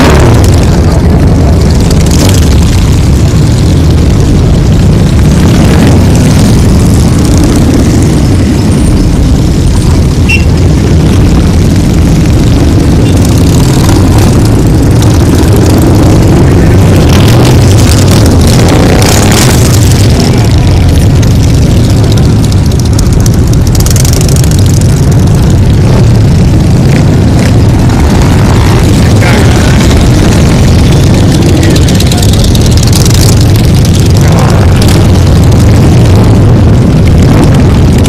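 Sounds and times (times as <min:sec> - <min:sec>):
motorcycle engines roaring: 0:00.0 - 0:38.0.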